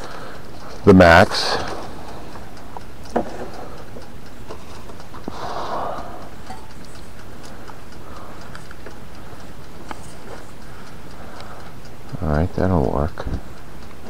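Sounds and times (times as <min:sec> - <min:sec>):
steady low hum: 0:00.0 - 0:14.0
toaster oven ticking: 0:00.0 - 0:14.0.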